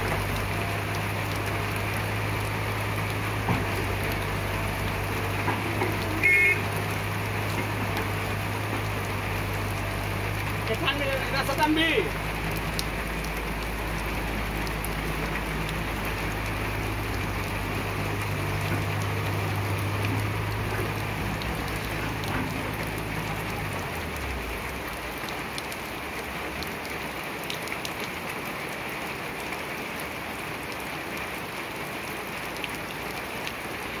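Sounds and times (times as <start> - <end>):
steady hiss with ticks: 0.0 - 28.8.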